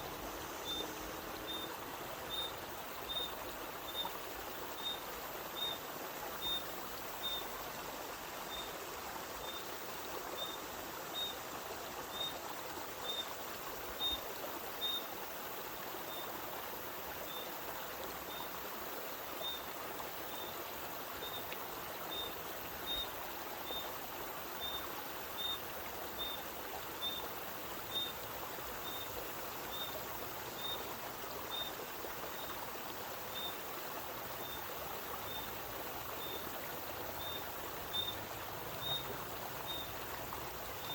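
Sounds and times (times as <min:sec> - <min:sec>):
spring water trickling: 0:00.0 - 0:40.9.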